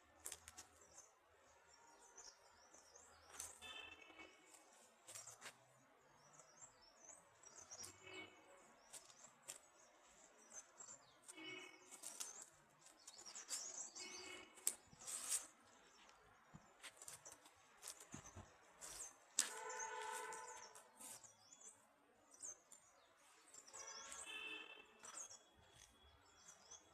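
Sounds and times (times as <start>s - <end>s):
small birds chirping: 0.2s - 26.9s.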